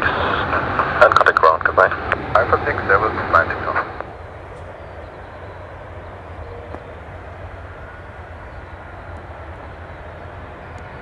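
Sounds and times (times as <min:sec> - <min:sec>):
distant jet engines rumbling: 0:00.0 - 0:11.0.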